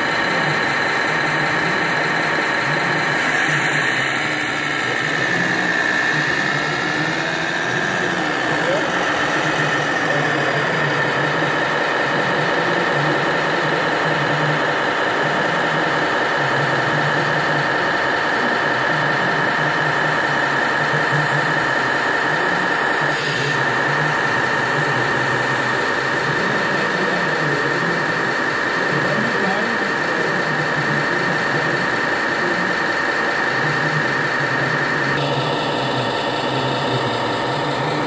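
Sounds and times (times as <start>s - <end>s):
engine idling drone: 0.0s - 38.0s
high whine: 0.0s - 38.0s.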